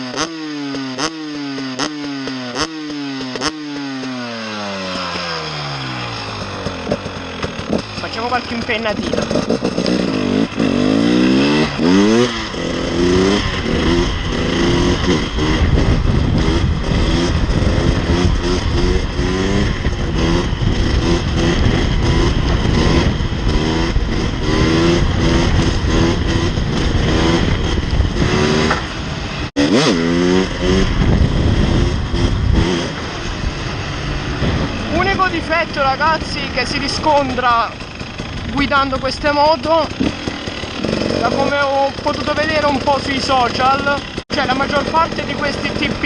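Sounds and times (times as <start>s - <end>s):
two-stroke motorcycle engine revving: 0.0s - 46.0s.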